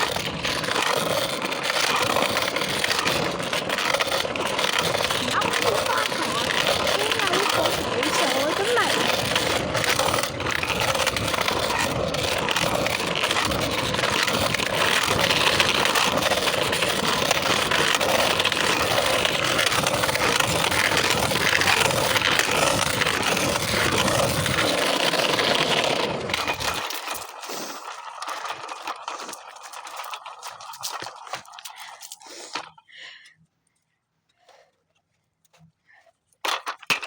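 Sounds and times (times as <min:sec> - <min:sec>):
scooter rolling over pavement: 0:00.0 - 0:32.9, 0:36.4 - 0:37.0.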